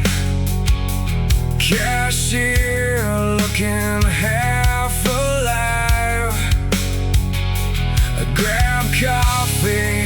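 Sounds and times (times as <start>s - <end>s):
slow rock instrumental: 0.0s - 10.0s
steady drum beats: 0.0s - 10.0s.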